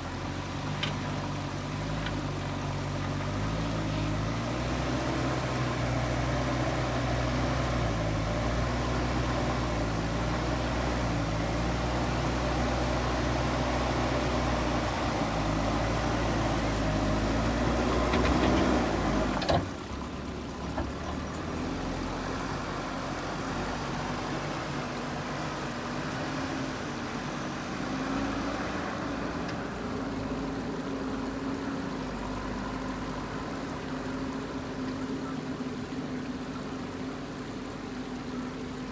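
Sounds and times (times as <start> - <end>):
diesel engine running: 0.0 - 38.9
higher engine sound: 0.0 - 38.9.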